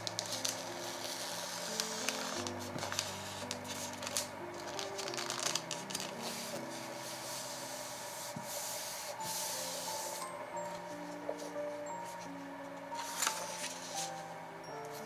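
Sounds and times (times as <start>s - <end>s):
hands rubbing paper: 0.0s - 14.3s
soft background music: 0.0s - 15.0s.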